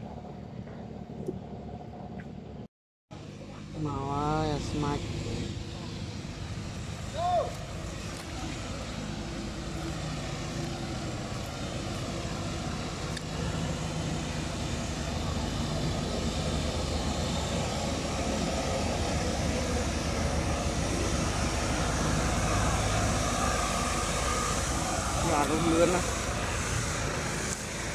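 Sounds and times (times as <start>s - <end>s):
boat engine running: 0.0s - 27.9s.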